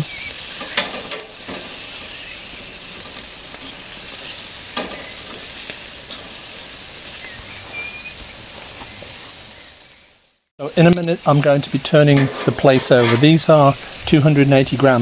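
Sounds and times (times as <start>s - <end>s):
sausages sizzling on a grill: 0.0s - 15.0s.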